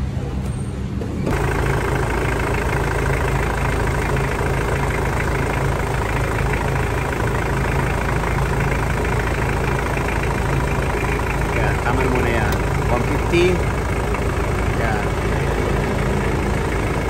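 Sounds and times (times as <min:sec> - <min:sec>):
air conditioning running: 0:01.2 - 0:17.0
car engine idling: 0:01.3 - 0:17.0.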